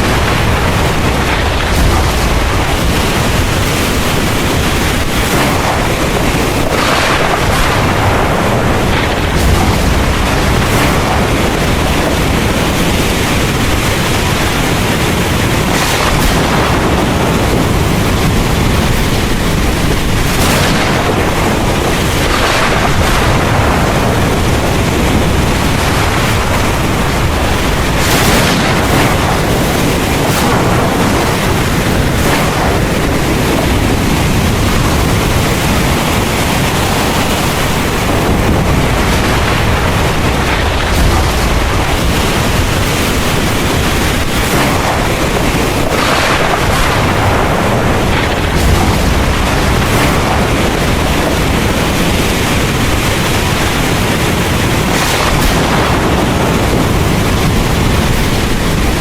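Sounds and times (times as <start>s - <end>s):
heavy rain pouring: 0.0s - 59.0s
low rumble of thunder: 0.0s - 59.0s
wind: 0.0s - 59.0s.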